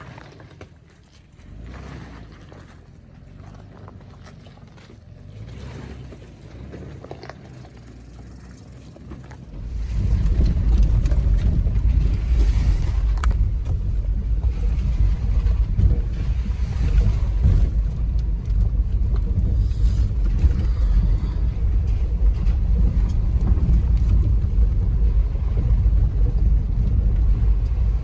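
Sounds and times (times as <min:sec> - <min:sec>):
fluttering engine rumble: 0:00.0 - 0:28.0.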